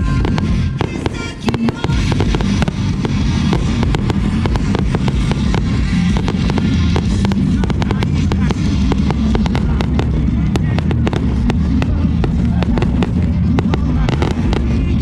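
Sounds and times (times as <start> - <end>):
fireworks bursting and crackling: 0.0 - 15.0
music with drums: 0.0 - 15.0.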